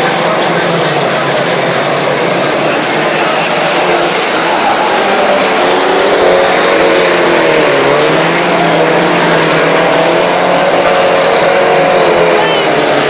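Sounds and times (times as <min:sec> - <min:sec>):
racing truck engines running hard: 0:00.0 - 0:13.0.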